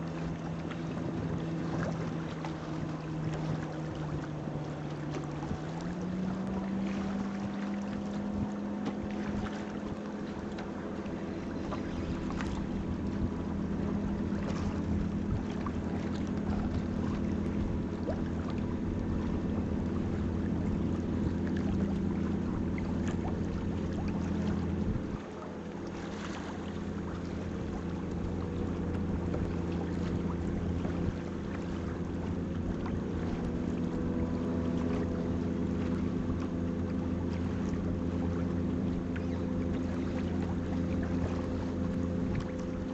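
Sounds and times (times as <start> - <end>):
boat engine humming: 0.0 - 42.9
water noise: 0.0 - 42.9
wind: 0.0 - 42.9.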